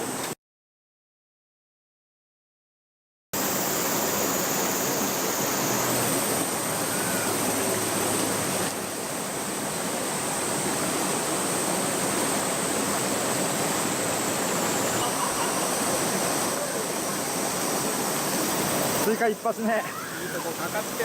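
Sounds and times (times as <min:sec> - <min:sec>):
mountain stream flowing: 0:03.4 - 0:21.0.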